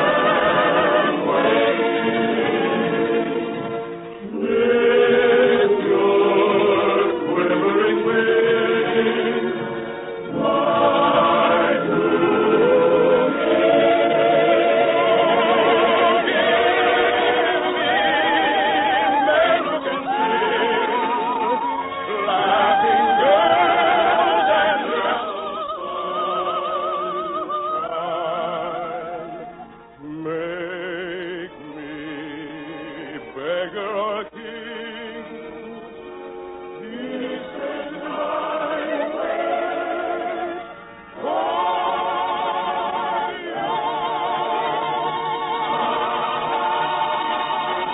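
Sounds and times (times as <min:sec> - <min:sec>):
operetta singing with vibrato: 0:00.0 - 0:09.6, 0:10.3 - 0:35.3, 0:36.8 - 0:47.9.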